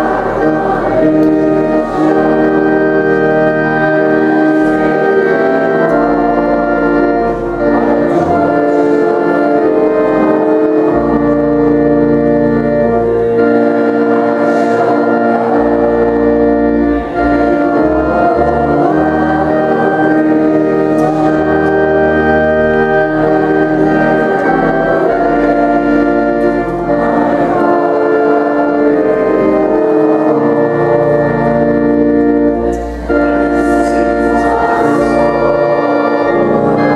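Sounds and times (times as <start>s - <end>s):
organ playing sustained chords: 0.0s - 36.9s.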